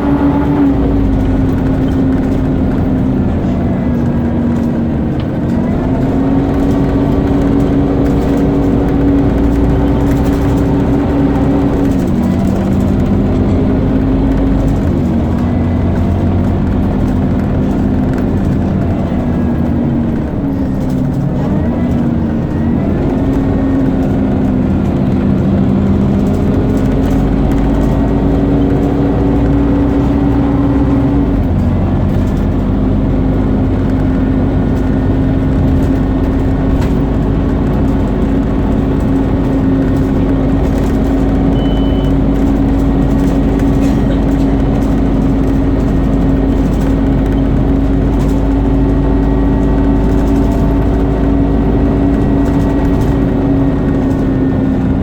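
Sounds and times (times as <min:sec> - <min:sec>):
whining bus engine drone: 0:00.0 - 0:55.0.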